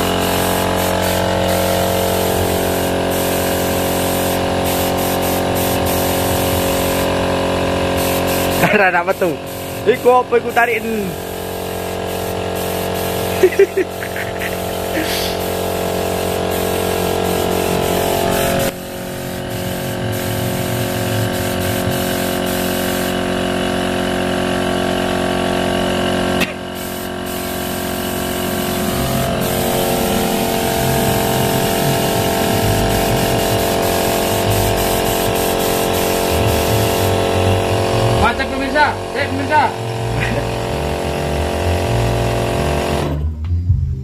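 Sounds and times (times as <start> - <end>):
paint spray gun hissing: 0.0 - 43.2
air compressor humming: 0.0 - 43.5.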